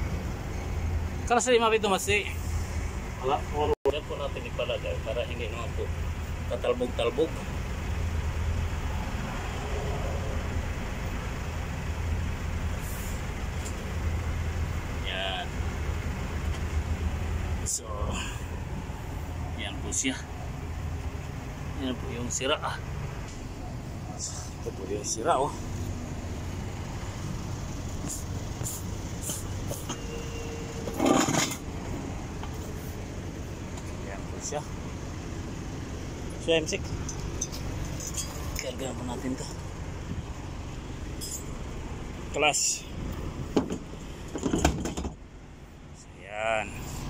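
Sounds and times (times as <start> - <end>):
vehicle engine idling: 0.0 - 47.0.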